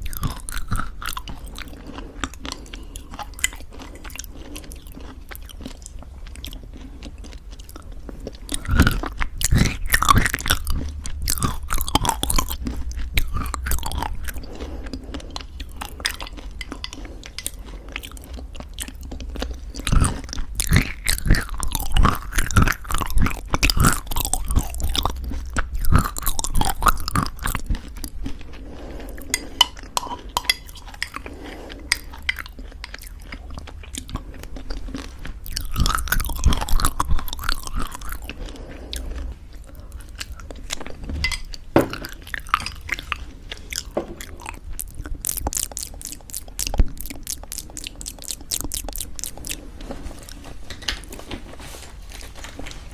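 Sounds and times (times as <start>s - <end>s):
chewing crunchy granola: 0.0s - 52.9s.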